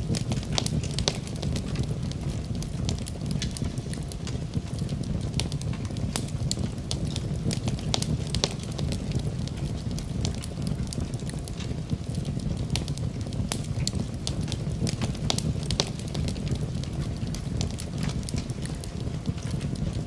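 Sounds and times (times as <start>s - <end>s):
low steady rumble: 0.0s - 20.0s
wood fire crackling: 0.0s - 20.0s.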